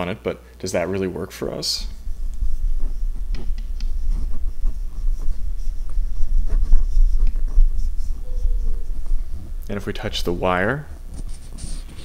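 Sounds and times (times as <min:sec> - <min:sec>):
microphone handling rumble: 0:01.8 - 0:11.5.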